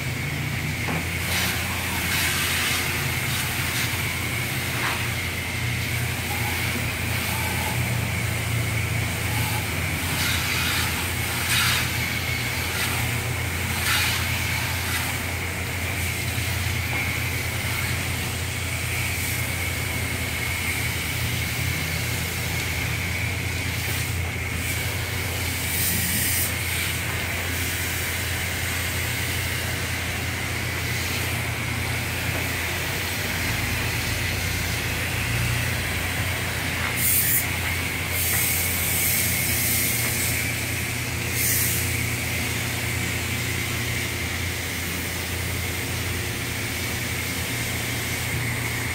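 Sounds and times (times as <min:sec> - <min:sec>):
pressure washer spraying water: 0:00.0 - 0:48.9.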